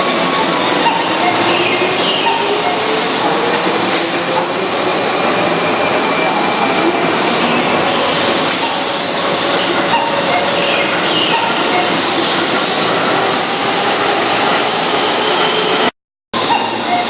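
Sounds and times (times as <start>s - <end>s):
train wheels and motors: 0.0s - 17.0s.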